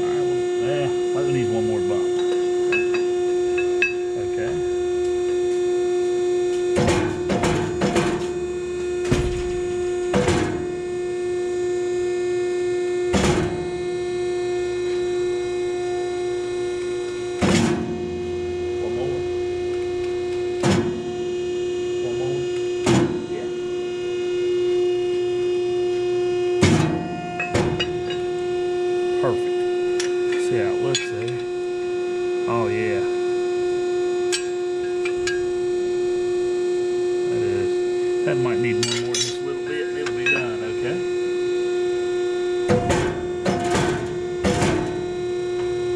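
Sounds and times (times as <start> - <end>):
loud electrical hum: 0.0 - 45.9.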